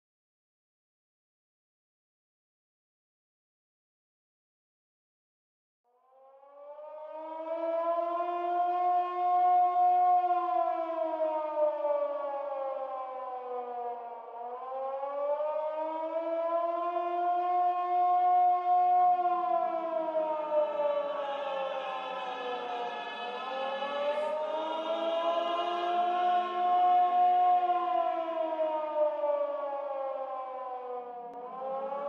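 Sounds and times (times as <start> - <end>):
air-raid siren wailing: 6.0 - 32.0.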